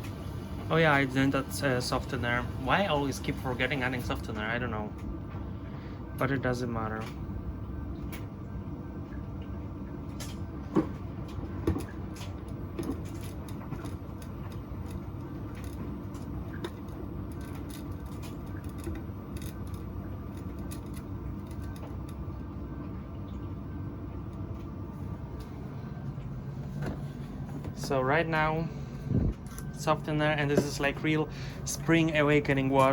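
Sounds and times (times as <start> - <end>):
washing machine humming: 0.0 - 32.9.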